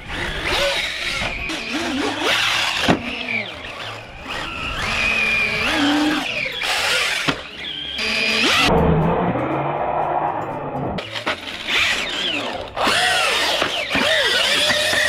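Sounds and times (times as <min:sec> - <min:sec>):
electric motor whining: 0:00.0 - 0:08.7, 0:11.0 - 0:15.0.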